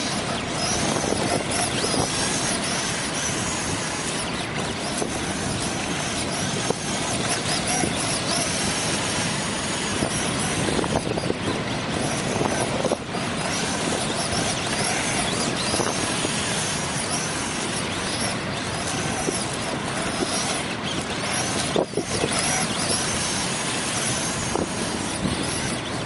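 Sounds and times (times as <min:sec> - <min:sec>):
electric motor and gears whining: 0:00.0 - 0:26.0
steady rushing noise: 0:00.0 - 0:26.0.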